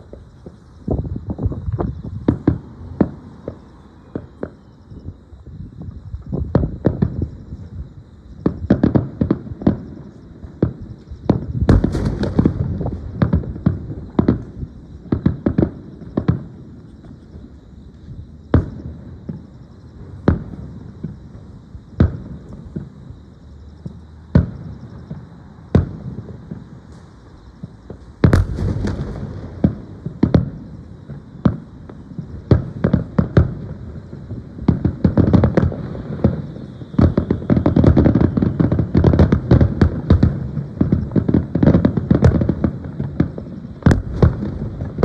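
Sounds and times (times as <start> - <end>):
crackling firework burst: 0.0 - 45.0
fireworks booming: 0.0 - 45.0.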